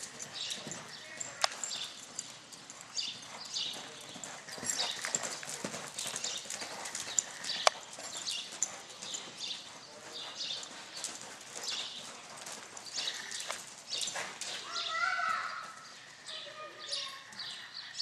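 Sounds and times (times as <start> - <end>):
horse hoofbeats on dirt: 0.0 - 16.3.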